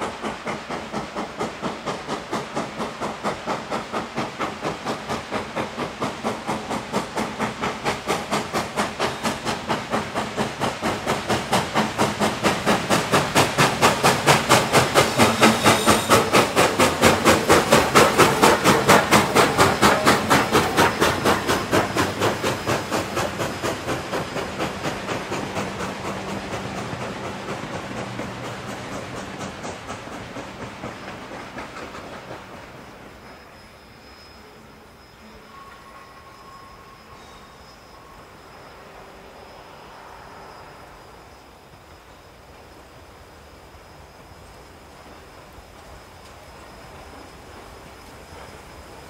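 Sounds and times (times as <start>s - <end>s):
railway cars rolling: 0.0s - 49.0s
steam locomotive exhaust chuffs: 0.0s - 49.0s.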